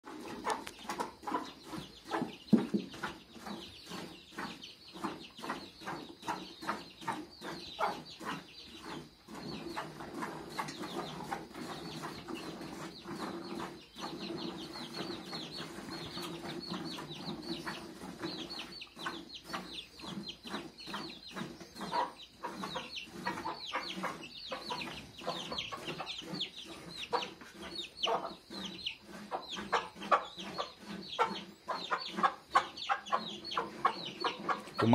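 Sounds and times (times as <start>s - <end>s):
hens clucking: 0.0s - 34.9s.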